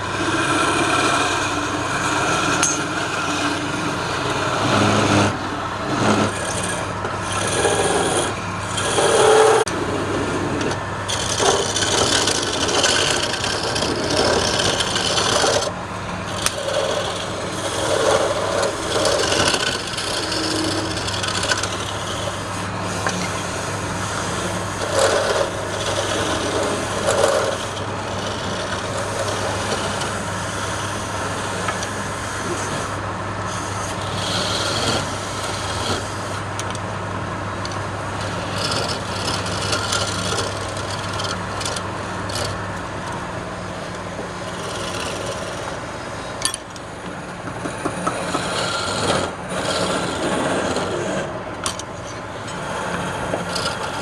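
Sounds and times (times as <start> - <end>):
turning tool scraping wood: 0.0 - 36.8, 37.6 - 42.7, 43.9 - 46.3, 47.6 - 54.0
lathe motor hum: 0.0 - 54.0.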